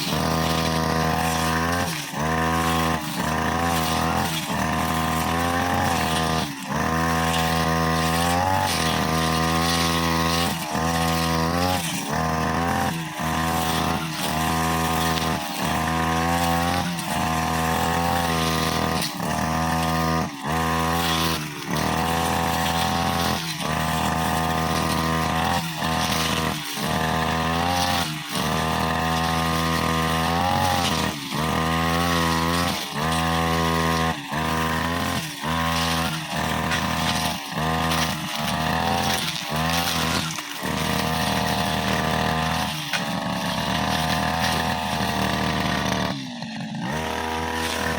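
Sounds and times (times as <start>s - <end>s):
brushcutter cutting grass: 0.0s - 47.9s.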